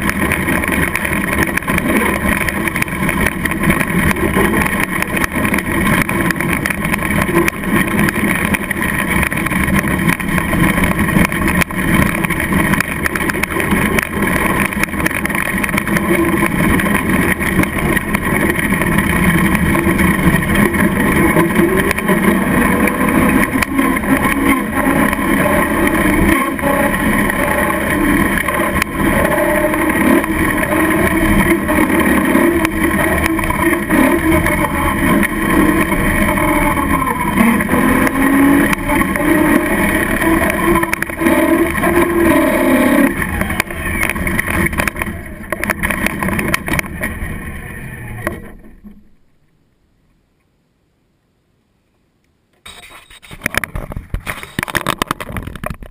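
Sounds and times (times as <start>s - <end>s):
tyres rumbling on gravel: 0.0s - 49.4s, 52.7s - 55.9s
motor and drivetrain whine: 0.0s - 49.6s, 52.5s - 55.9s.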